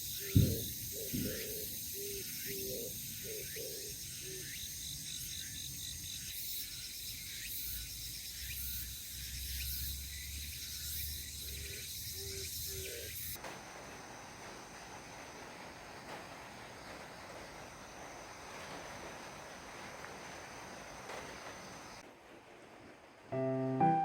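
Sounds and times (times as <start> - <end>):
crickets and insects chirping: 0.0 - 24.0.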